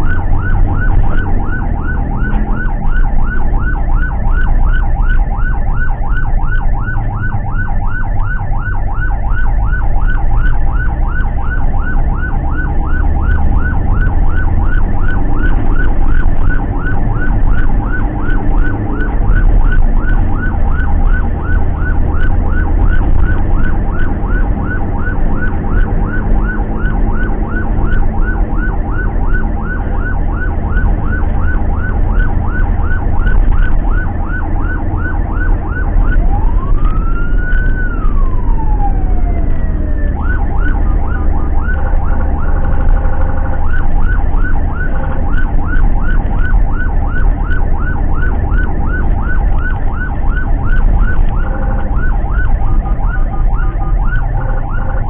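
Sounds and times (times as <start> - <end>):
ambulance siren: 0.0 - 55.0
road rumble: 0.0 - 55.0
van engine: 0.0 - 55.0.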